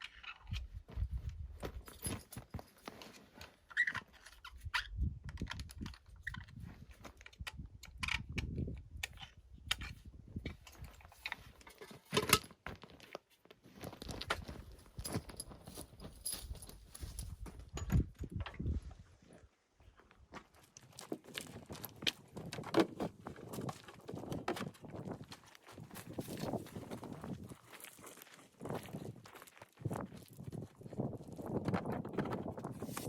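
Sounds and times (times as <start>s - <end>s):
tools and gear being handled: 0.0s - 18.6s, 20.7s - 29.3s, 31.5s - 33.0s.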